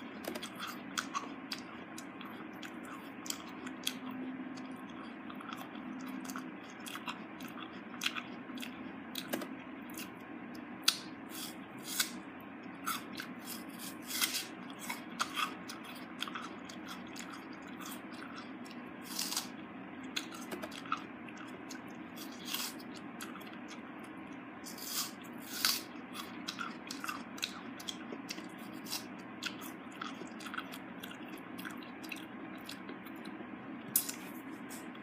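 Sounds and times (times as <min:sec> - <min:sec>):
person chewing crunchy food: 0:00.0 - 0:10.2, 0:10.8 - 0:35.0
low hum: 0:00.0 - 0:35.0.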